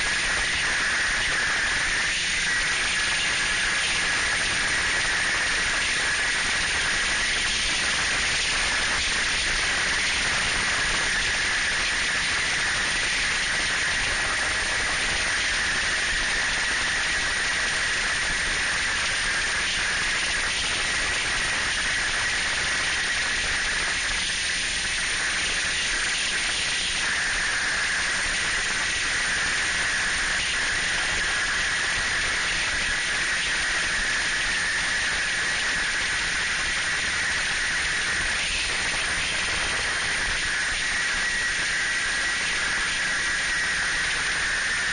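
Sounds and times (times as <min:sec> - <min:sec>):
high engine whine: 0:00.0 - 0:44.9.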